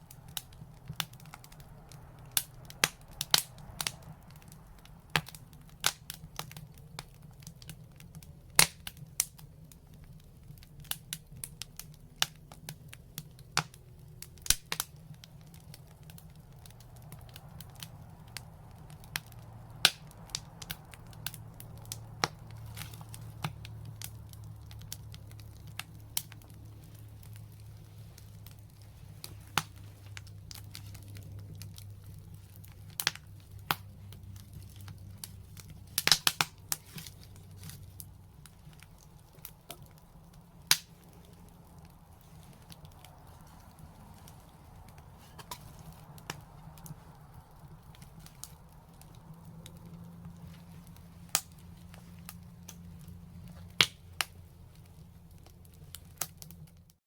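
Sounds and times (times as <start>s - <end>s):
fire crackling and popping: 0.0s - 57.0s
low steady rumble: 0.0s - 57.0s.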